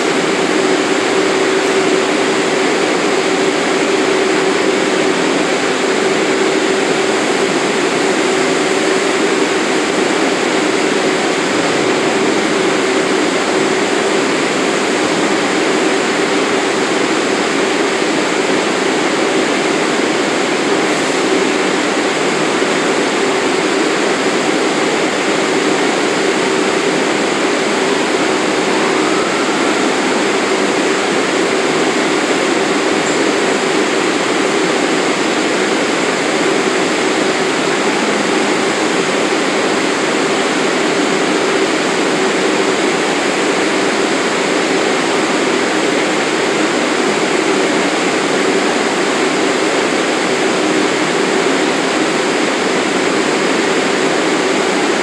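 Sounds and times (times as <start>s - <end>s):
subway train air-conditioning rush: 0.0s - 55.0s.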